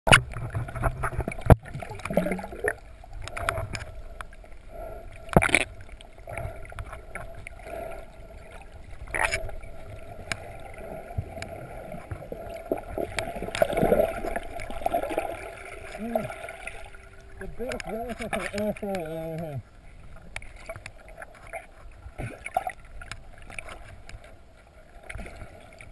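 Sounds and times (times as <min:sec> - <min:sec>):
muffled underwater noise: 0:00.1 - 0:22.4.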